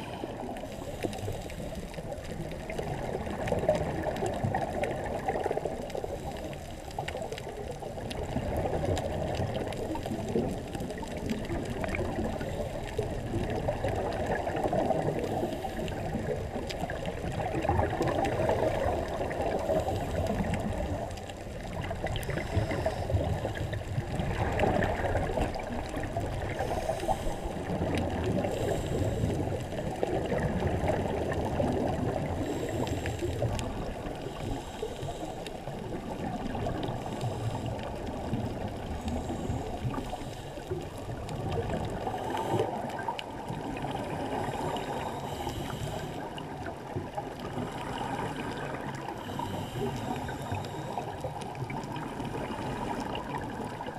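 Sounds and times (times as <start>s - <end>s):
underwater bubbling and gurgling: 0.0s - 53.9s.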